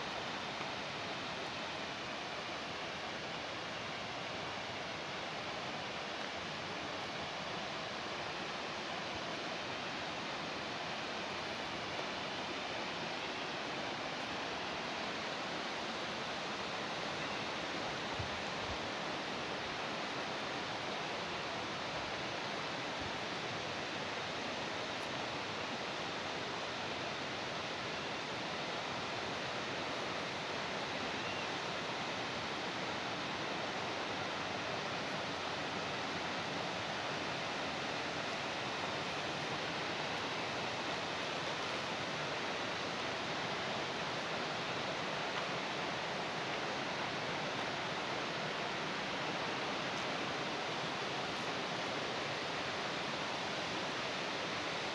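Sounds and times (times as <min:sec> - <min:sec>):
water rushing along a channel: 0:00.0 - 0:54.9.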